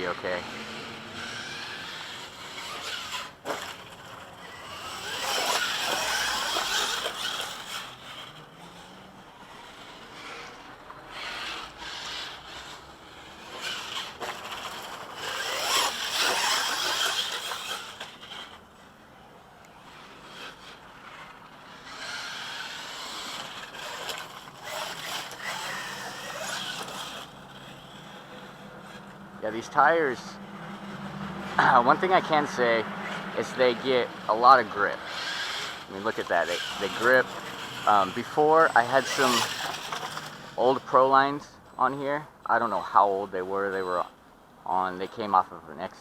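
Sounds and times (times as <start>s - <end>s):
electric motor whine: 0.0s - 18.8s, 19.6s - 29.2s, 30.5s - 40.6s
tyres scrabbling on dirt: 0.0s - 44.1s.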